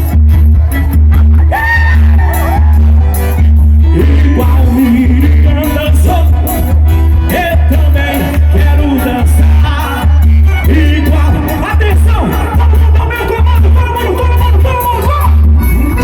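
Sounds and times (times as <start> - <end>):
heavy steady bass: 0.0 - 16.0
live band music with singing: 0.0 - 16.0.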